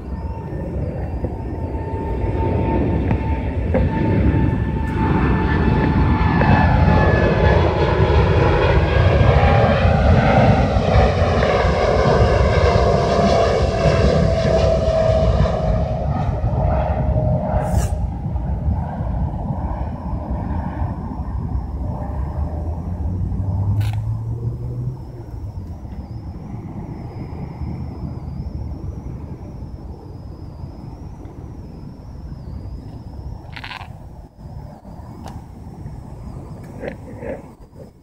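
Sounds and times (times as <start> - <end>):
aircraft engine drone passing overhead: 0.0 - 38.0.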